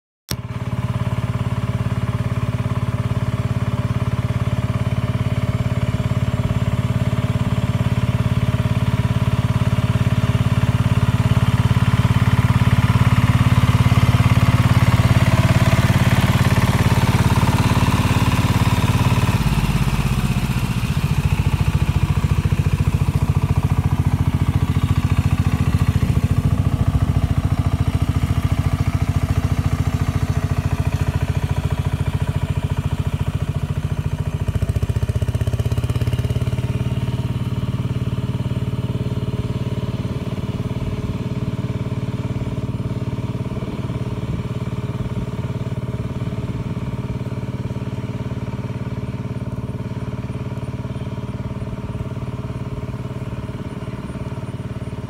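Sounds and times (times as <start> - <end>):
diesel tiller engine running: 0.3 - 55.0.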